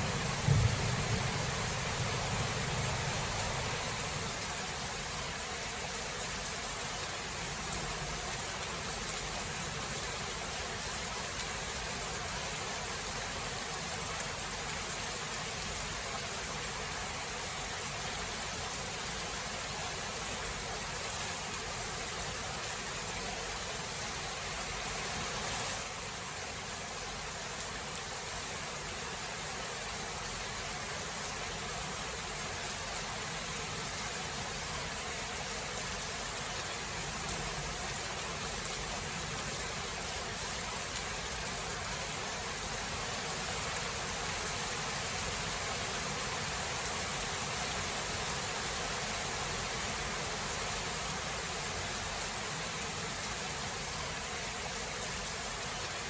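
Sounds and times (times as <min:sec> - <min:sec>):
steady rain falling: 0:00.0 - 0:56.0
faint ticks of raindrops: 0:00.1 - 0:56.0.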